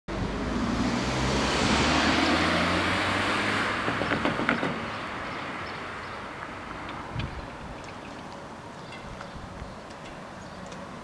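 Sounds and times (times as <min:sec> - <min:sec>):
car tyre and engine noise: 0:00.1 - 0:11.0.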